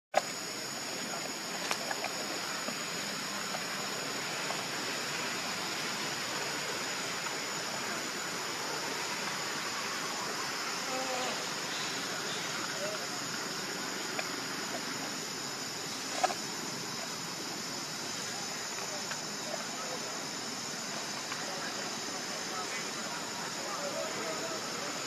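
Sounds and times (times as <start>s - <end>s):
high insect drone: 0.2s - 25.0s
rushing hiss: 0.2s - 25.0s.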